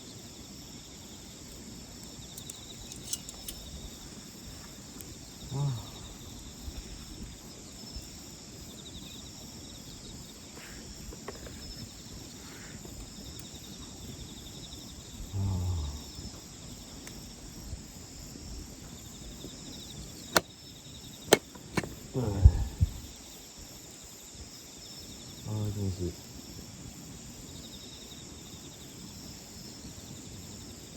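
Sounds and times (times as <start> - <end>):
crickets chirping: 0.0 - 30.9.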